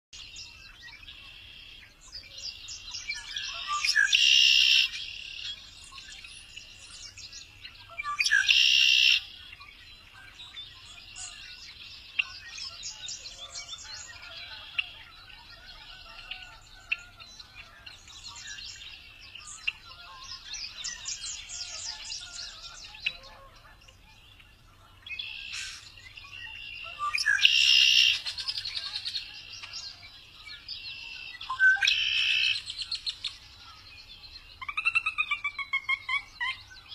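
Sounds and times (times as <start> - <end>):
blackbird buzzy trilling song: 0.2 - 36.9
bird chirps and chatter: 2.1 - 36.9.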